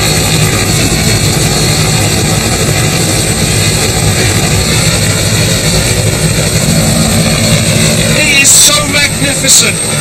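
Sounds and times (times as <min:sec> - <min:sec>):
helicopter flying low: 0:00.0 - 0:10.0.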